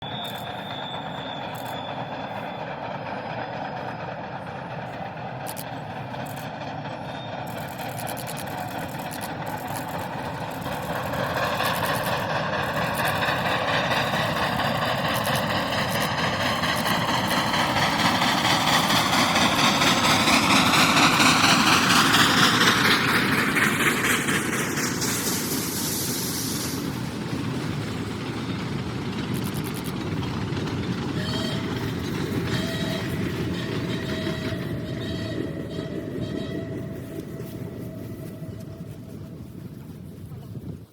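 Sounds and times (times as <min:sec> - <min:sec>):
train rumbling and rattling: 0:00.0 - 0:40.9.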